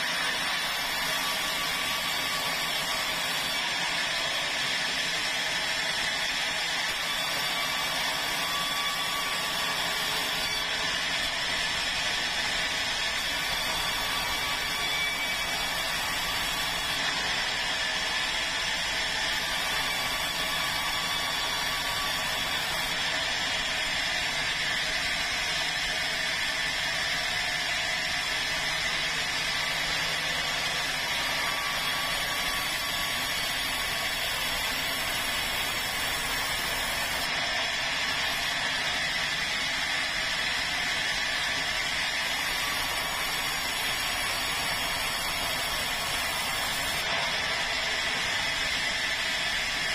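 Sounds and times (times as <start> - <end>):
band saw whining through wood: 0.0 - 49.9
sawmill machine running: 0.0 - 49.9.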